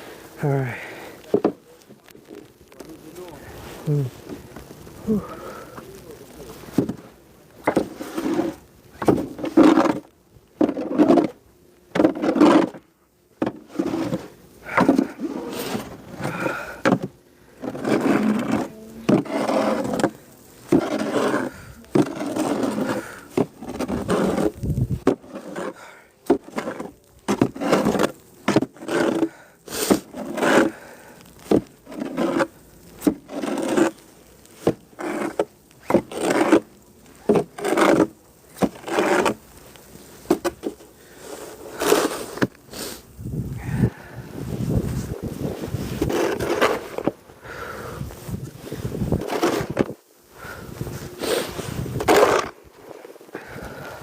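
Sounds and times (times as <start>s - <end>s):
snow shovel scraping: 0.0s - 54.0s.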